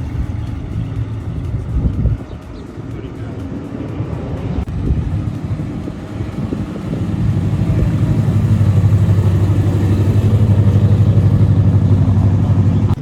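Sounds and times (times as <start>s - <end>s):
car engine throbbing rumble: 0.0s - 13.0s.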